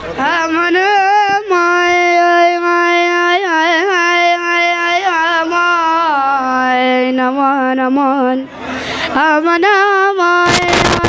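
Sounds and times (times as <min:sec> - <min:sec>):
child singing: 0:00.2 - 0:08.5, 0:09.2 - 0:11.0.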